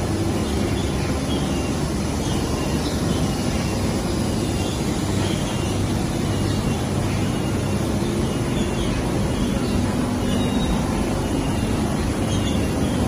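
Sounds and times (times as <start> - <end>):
production line machines humming: 0.0 - 13.0.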